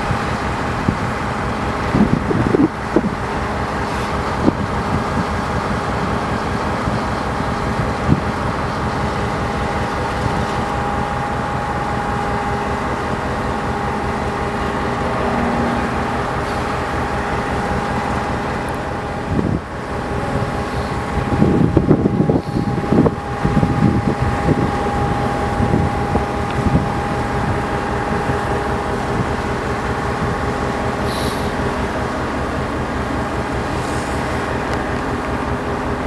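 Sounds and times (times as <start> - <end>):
diesel locomotive engine rumble: 0.0 - 36.0
steady whine: 0.0 - 36.0.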